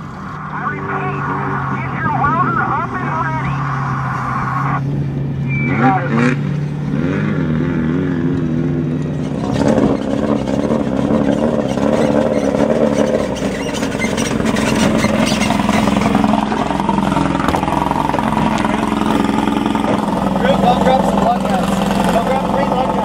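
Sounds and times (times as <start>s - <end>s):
race truck engine running: 0.0s - 23.0s.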